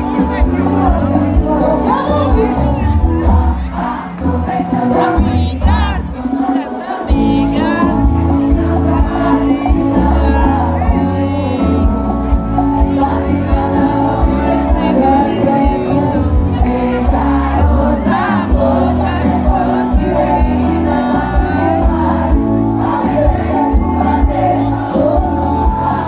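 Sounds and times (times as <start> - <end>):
crowd singing along: 0.0 - 26.0
live band playing: 0.0 - 26.0
person singing: 0.0 - 26.0.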